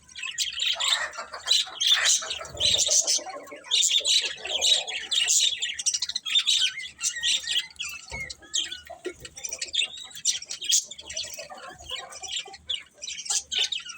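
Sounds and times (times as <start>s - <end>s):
budgerigars chirping: 0.0s - 13.9s.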